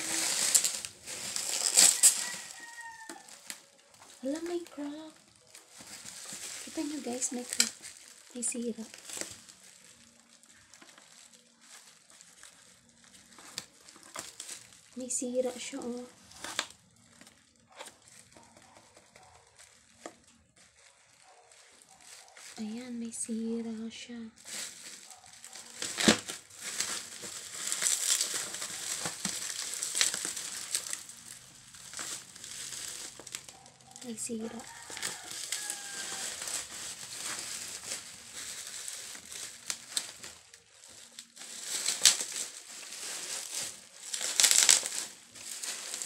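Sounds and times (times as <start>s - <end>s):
bubble wrap rustling: 0.0s - 46.0s.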